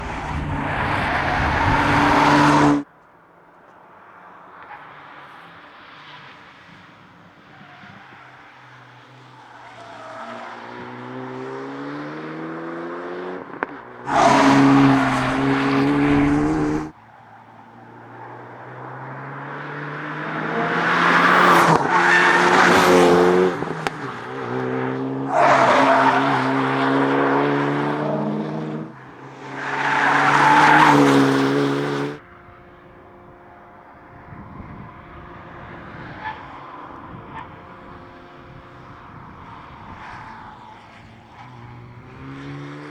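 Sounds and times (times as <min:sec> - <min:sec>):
car engine accelerating: 0:00.0 - 0:02.9, 0:05.4 - 0:42.9.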